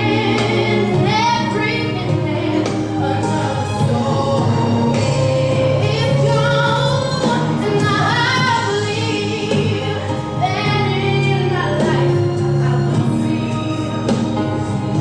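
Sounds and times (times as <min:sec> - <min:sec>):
instrumental accompaniment: 0:00.0 - 0:15.0
woman singing into microphone: 0:00.0 - 0:15.0.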